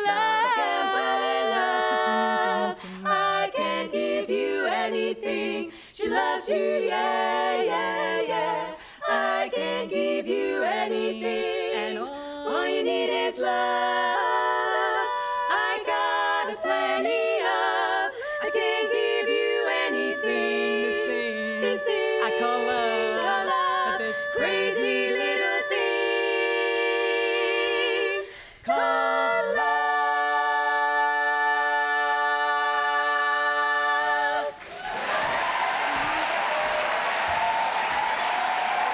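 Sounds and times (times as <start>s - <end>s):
women's chorus singing a cappella: 0.0s - 38.9s.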